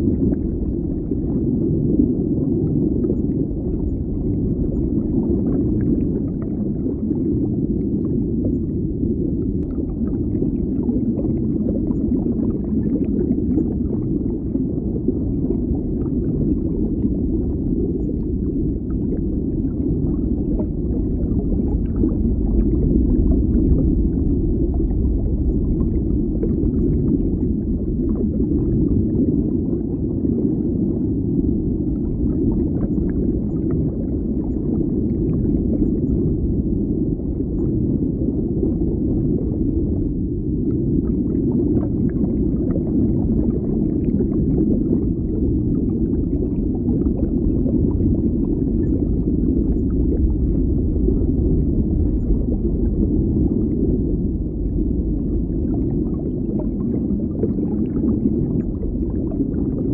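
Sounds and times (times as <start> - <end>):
muffled underwater bubbling: 0.0 - 59.9.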